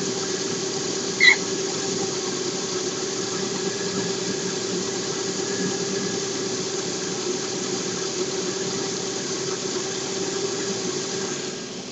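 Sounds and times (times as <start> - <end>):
car engine idling: 0.0 - 11.9
timing belt whine: 0.0 - 11.9.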